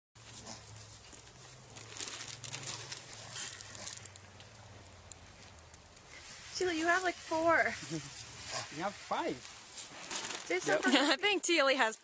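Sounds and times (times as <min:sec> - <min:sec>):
crinkling and crackling: 0:00.2 - 0:12.0.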